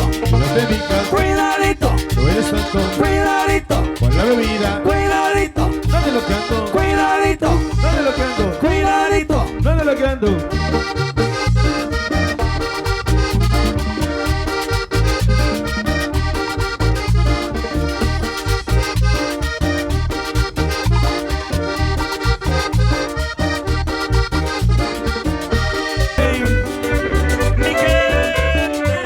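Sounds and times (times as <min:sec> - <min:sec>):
accordion melody: 0:00.0 - 0:29.0
bass and percussion beat: 0:00.0 - 0:29.0.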